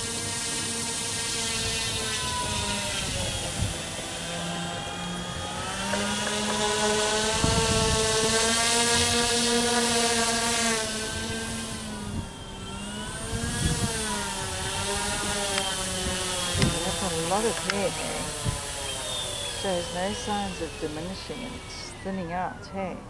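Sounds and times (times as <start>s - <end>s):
model plane motors and propellers: 0.0s - 23.0s.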